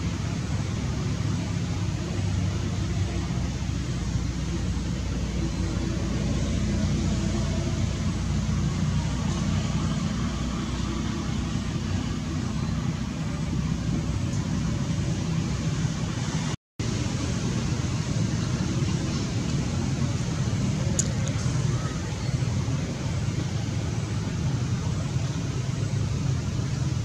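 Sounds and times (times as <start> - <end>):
engine rumble: 0.0 - 27.0.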